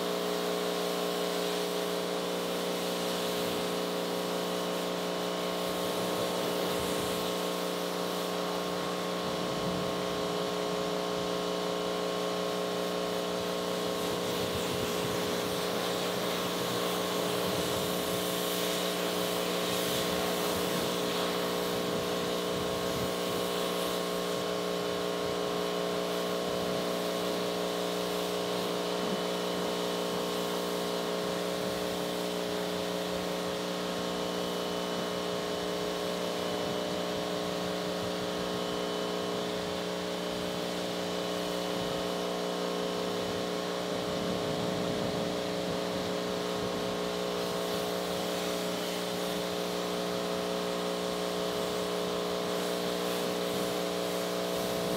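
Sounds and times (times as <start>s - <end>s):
pressure washer humming: 0.0s - 54.9s
water spray hissing on car: 0.0s - 54.9s.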